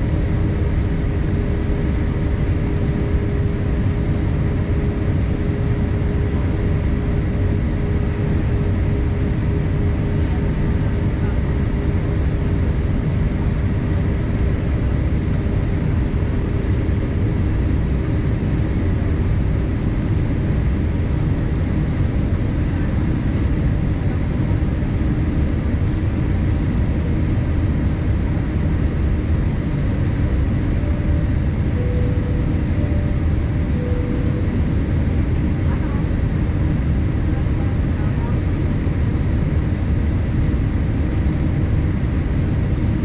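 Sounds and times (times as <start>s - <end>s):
aircraft cabin engine roar: 0.0s - 43.0s
faint steady hum: 0.0s - 43.0s.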